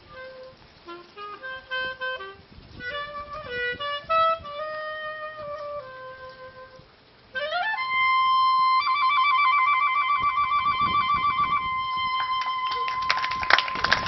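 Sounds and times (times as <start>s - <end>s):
solo clarinet: 0.0s - 14.0s.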